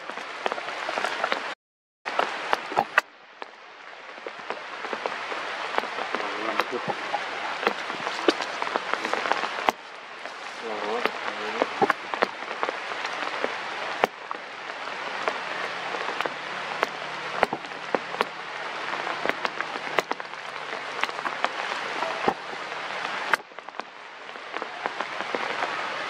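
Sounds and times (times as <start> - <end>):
rain drips and taps: 0.0 - 26.0
rain pattering on leaves: 0.0 - 26.0.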